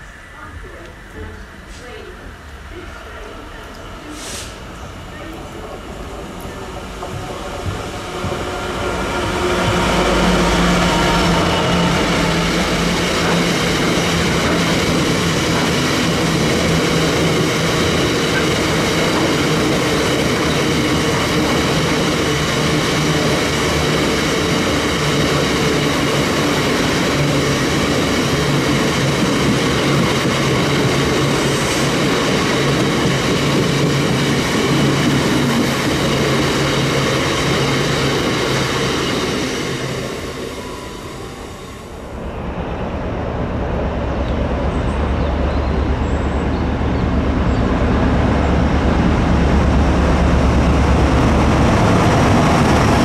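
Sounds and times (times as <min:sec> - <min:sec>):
diesel locomotive engine: 0:00.0 - 0:53.0
train rumble: 0:00.0 - 0:53.0.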